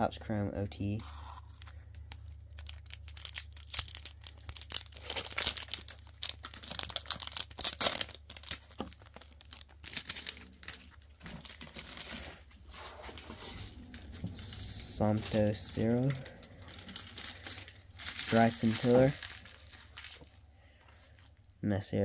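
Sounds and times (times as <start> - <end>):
foil wrapper tearing and crinkling: 1.0 - 21.5.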